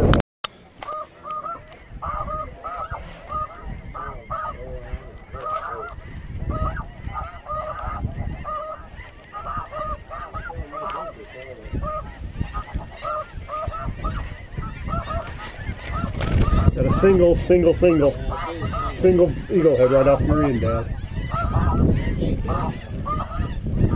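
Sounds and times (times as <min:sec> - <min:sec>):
wind rumble on microphone: 0:00.0 - 0:00.2, 0:01.4 - 0:23.9
snow geese yelping calls: 0:00.7 - 0:23.9.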